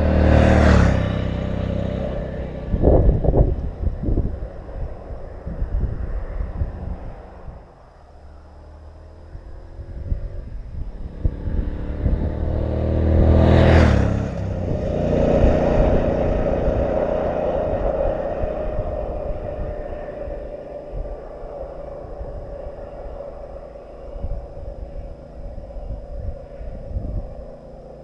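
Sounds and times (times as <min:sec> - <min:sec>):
motorcycle passing by: 0:00.0 - 0:28.0.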